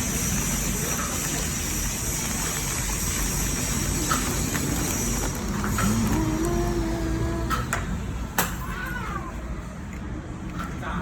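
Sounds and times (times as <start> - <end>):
steady rumble and hiss: 0.0 - 11.0.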